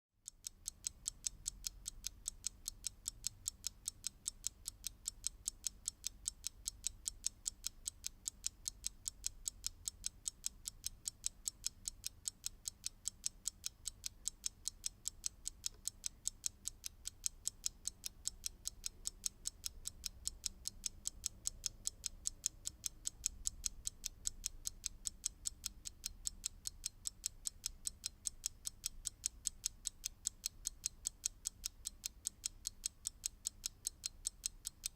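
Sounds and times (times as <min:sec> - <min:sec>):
clock ticking: 0:00.2 - 0:34.9.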